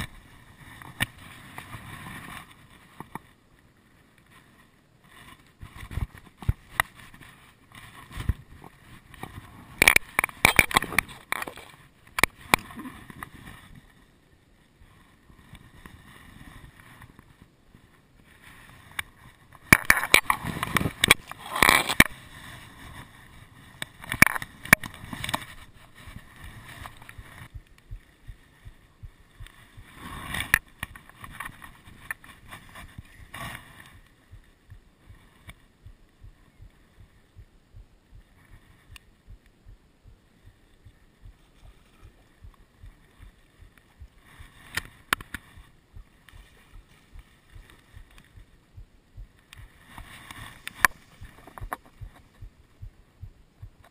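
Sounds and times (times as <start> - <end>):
grass rustling against camera: 0.0 - 53.9.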